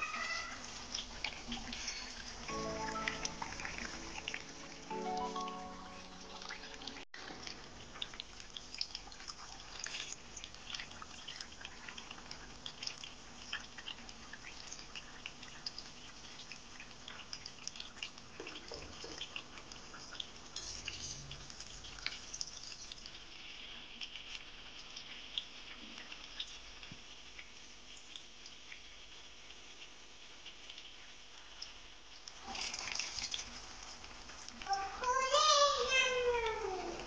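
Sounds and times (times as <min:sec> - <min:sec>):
food deep-frying in hot oil: 0:00.0 - 0:37.0.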